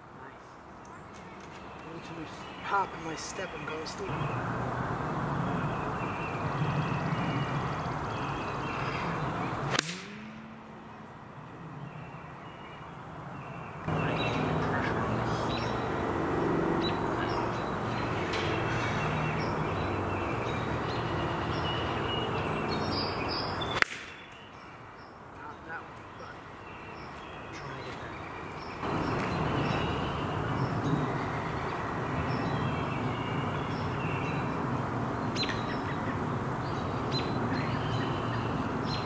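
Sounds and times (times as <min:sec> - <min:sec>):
birds calling: 0:00.0 - 0:39.0.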